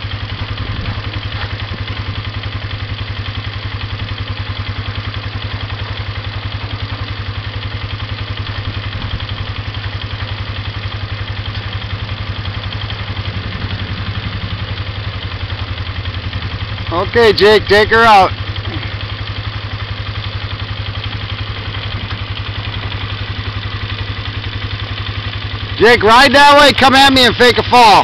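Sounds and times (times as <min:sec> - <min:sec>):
pickup truck engine idling: 0:00.0 - 0:28.0.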